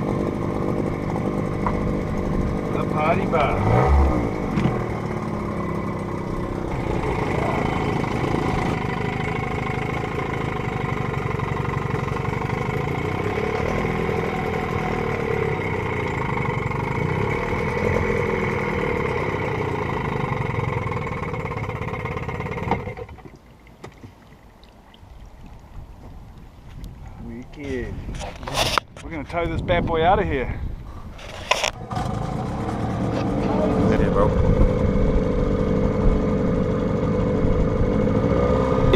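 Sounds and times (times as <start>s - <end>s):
engine running: 0.0s - 23.4s, 30.1s - 38.9s.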